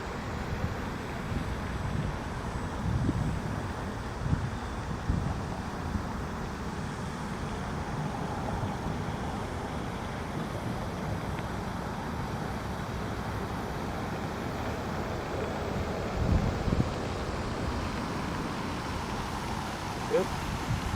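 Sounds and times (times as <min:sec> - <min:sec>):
wind noise on microphone: 0:00.0 - 0:20.9.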